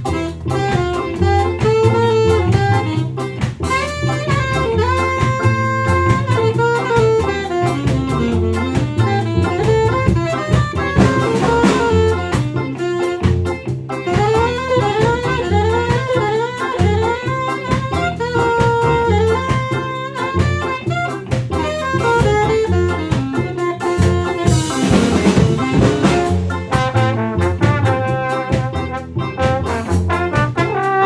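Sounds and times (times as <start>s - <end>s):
double bass: 0.0s - 31.0s
drum kit: 0.0s - 31.0s
saxophone melody: 0.0s - 31.0s.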